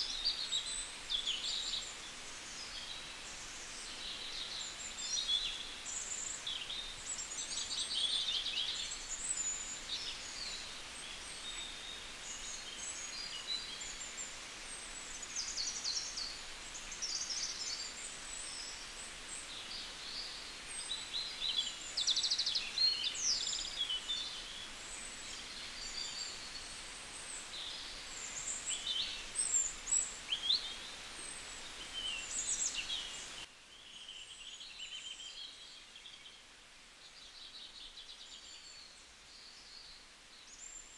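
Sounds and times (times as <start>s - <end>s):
small birds chirping: 0.0s - 40.9s
steady background hiss: 0.0s - 40.9s.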